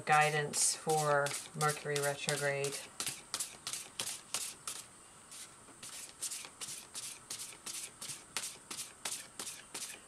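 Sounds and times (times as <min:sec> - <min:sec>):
cards being shuffled: 0:01.3 - 0:10.0.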